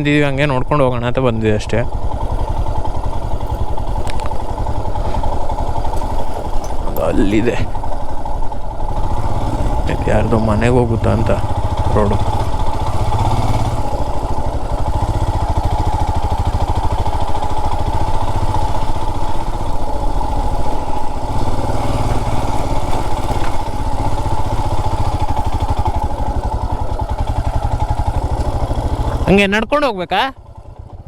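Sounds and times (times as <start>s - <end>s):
motorcycle engine running at low revs: 0.0s - 31.0s.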